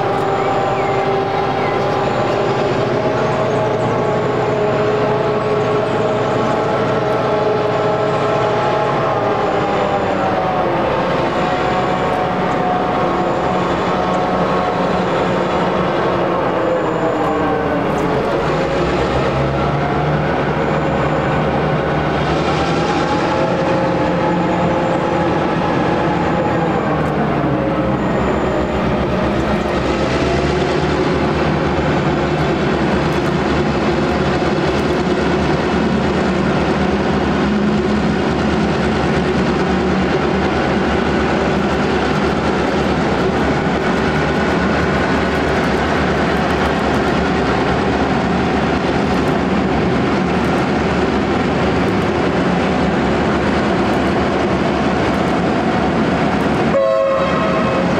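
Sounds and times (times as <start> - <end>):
diesel locomotive engine drone: 0.0 - 57.9
train running noise: 0.0 - 57.9.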